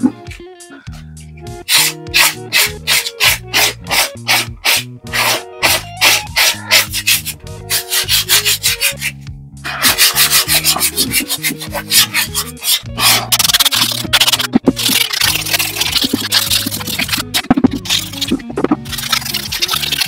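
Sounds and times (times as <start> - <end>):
sandpaper rubbing on body filler: 1.7 - 20.0.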